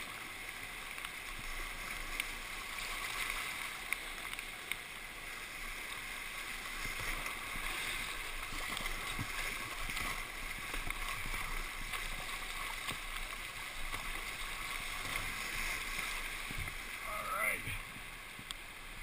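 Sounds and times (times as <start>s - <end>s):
small splashes: 0.0s - 17.0s
whitewater river rushing: 0.0s - 19.0s.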